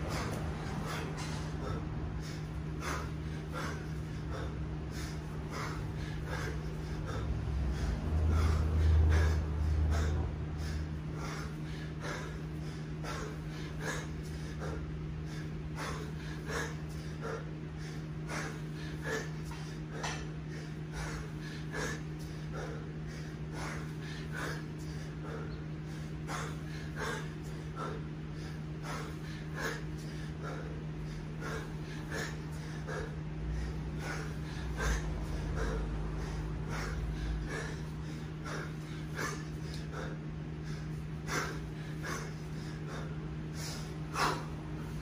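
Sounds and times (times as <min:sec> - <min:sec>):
man breathing hard: 0:00.0 - 0:45.0.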